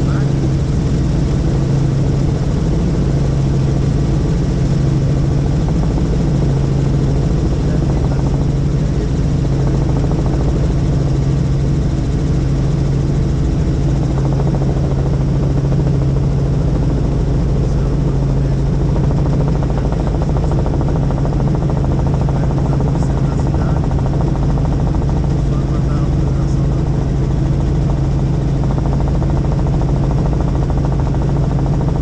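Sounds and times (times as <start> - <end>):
helicopter rotor and turbine drone: 0.0 - 32.0.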